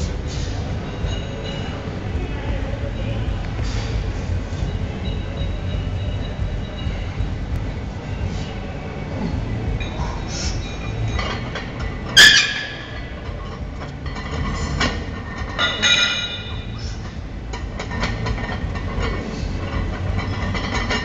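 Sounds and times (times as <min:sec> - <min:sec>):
low background rumble: 0:00.0 - 0:21.0
weight plates clanking: 0:00.1 - 0:02.0, 0:03.0 - 0:08.6, 0:09.3 - 0:21.0.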